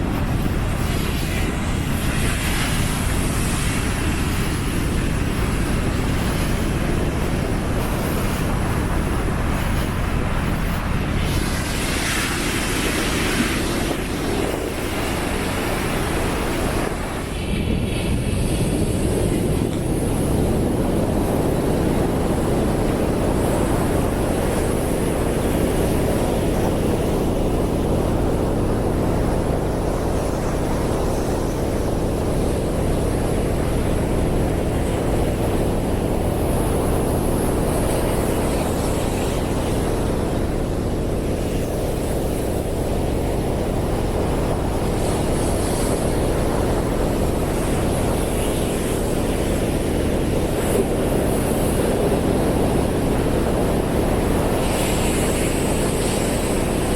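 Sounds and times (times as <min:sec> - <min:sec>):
surf breaking on beach: 0:00.0 - 0:56.9.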